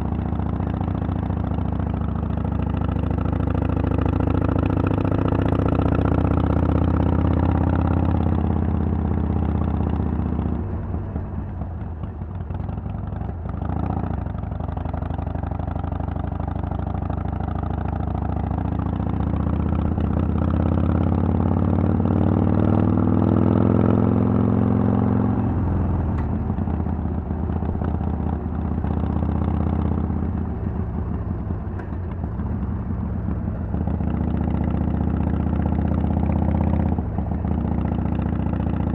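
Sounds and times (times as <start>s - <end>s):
motorcycle engine revving: 0.0s - 10.6s, 13.5s - 38.9s.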